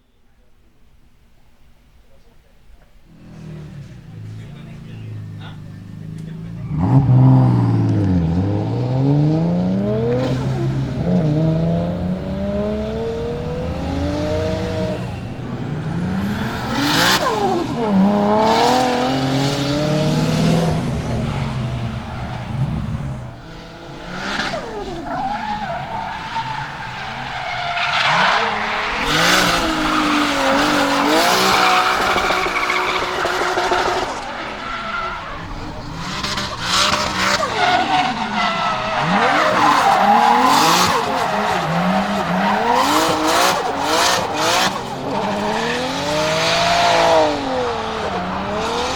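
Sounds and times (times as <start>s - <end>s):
car engine revving: 3.0s - 48.9s
tyres squealing and skidding: 3.0s - 48.9s.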